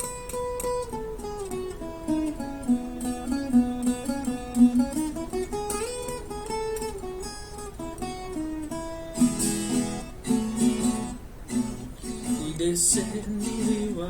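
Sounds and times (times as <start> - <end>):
picked acoustic guitar melody: 0.0 - 14.0
strummed guitar chords: 0.0 - 14.0.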